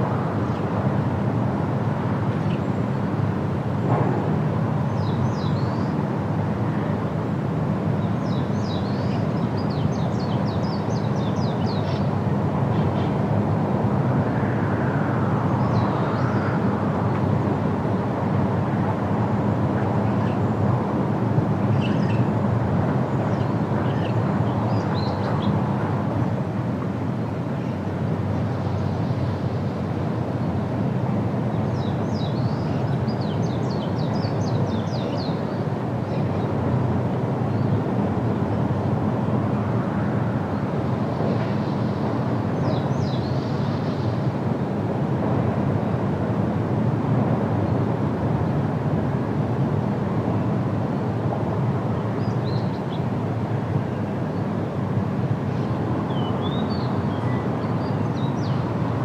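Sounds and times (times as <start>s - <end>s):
low rumble of background noise: 0.0s - 59.0s.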